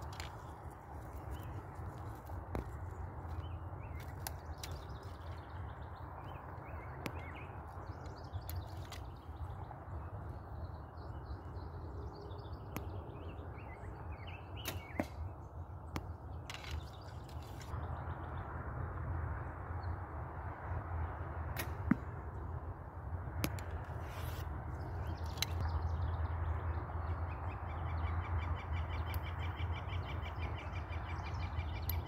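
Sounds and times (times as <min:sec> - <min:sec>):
birds chirping: 0:00.0 - 0:18.4, 0:24.1 - 0:32.0.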